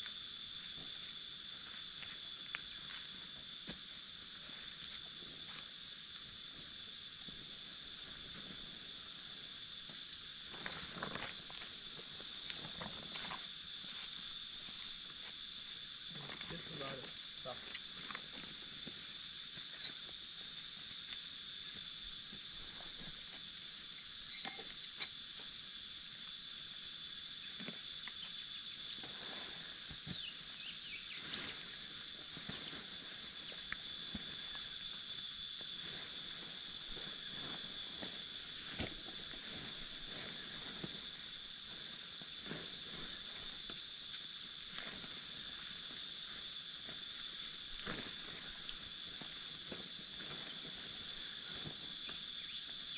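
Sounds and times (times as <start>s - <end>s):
high-pitched insect chorus: 0.0s - 52.9s.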